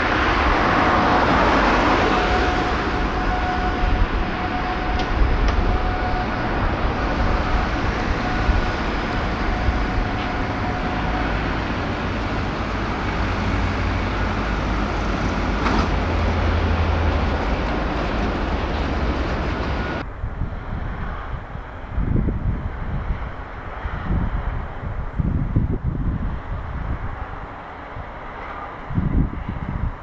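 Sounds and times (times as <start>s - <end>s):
low urban rumble: 0.0s - 30.0s.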